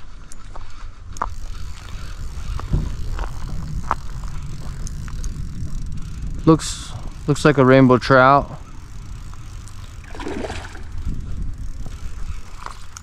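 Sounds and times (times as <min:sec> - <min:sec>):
spinning reel cranking: 0:01.2 - 0:13.0
steady low rumble: 0:01.4 - 0:13.0.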